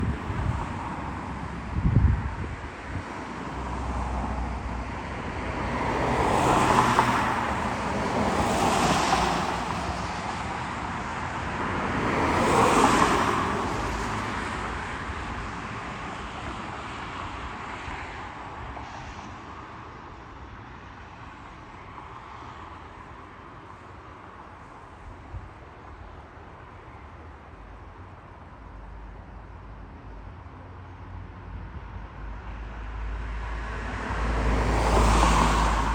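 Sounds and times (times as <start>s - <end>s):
vehicles passing: 0.0s - 35.9s.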